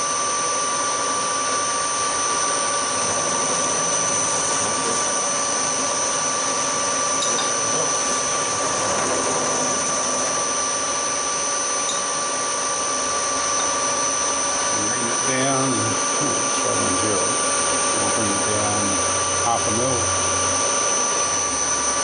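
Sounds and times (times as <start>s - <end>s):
high whine: 0.0s - 22.0s
milling machine hum: 0.0s - 22.0s.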